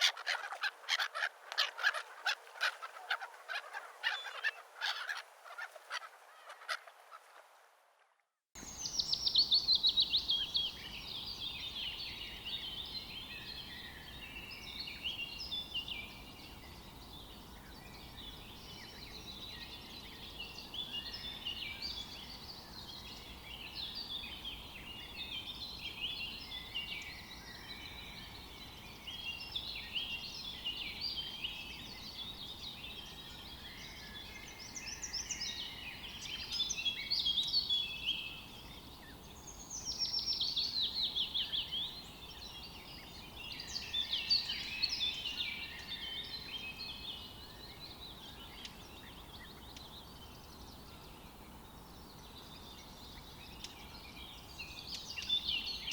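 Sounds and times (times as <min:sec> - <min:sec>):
songbirds singing: 0:00.0 - 0:06.7, 0:08.6 - 0:55.9
faint outdoor hiss: 0:00.0 - 0:55.9.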